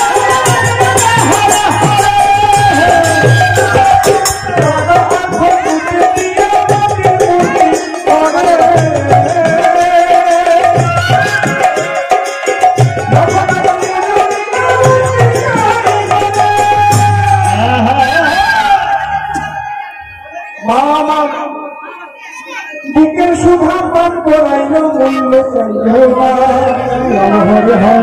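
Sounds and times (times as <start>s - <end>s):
harmonium melody: 0.0s - 28.0s.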